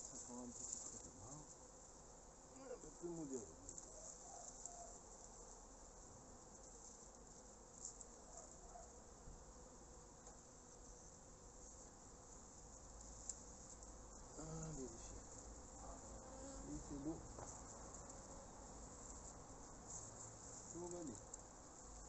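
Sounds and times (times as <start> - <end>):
bees buzzing faintly: 0.0 - 22.0
bee flying close past: 0.2 - 22.0.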